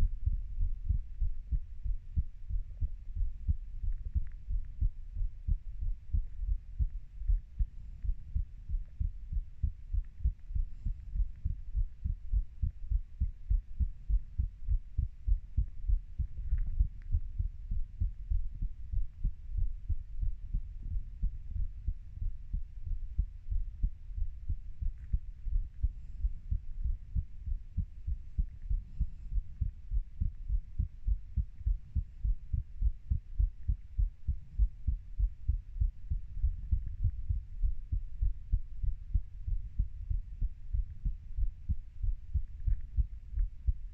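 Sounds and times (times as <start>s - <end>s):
heartbeat thuds: 0.0s - 43.9s.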